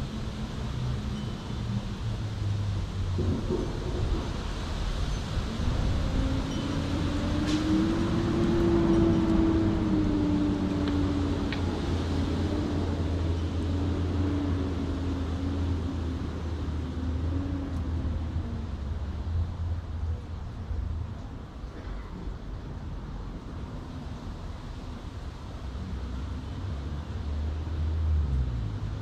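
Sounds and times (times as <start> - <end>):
passing engine hum: 0.0 - 29.0.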